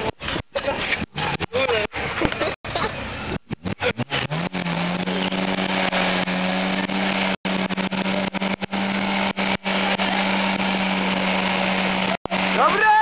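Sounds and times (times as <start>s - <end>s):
car engine revving: 0.0s - 13.0s
tyre spinning in a burnout: 0.0s - 13.0s.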